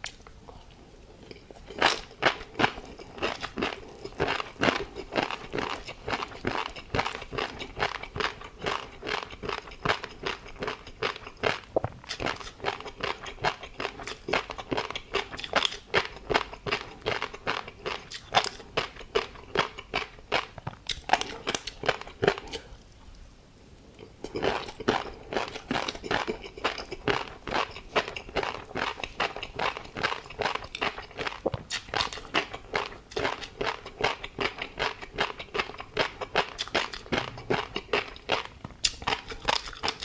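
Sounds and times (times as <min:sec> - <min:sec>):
chewing with crunches and pops: 0:00.0 - 0:23.2, 0:24.0 - 0:40.0.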